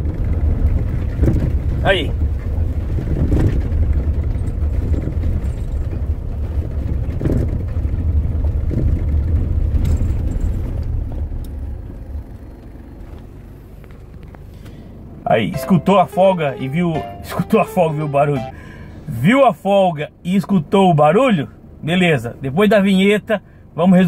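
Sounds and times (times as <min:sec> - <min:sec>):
in-cabin vehicle rumble: 0:00.0 - 0:24.0.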